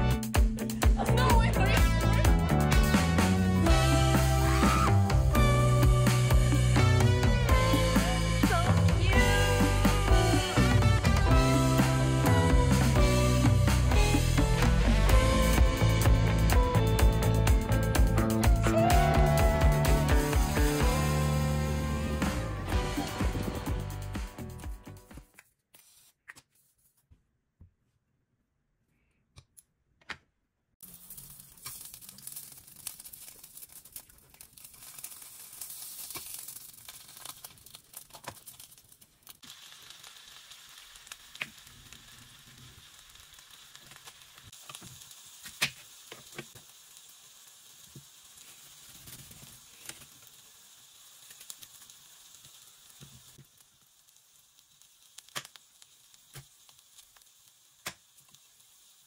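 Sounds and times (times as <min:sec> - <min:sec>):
food sizzling in a frying pan: 0:02.5 - 0:24.5, 0:30.8 - 0:59.0.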